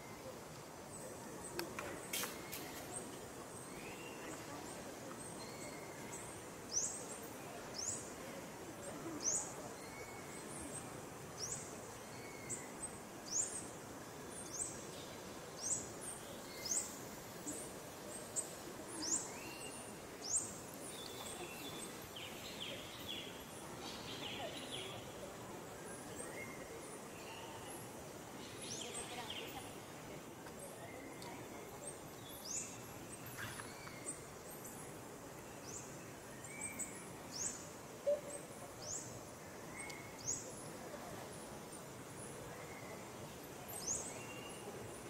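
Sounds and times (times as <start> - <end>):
steady outdoor hiss: 0.0 - 45.0.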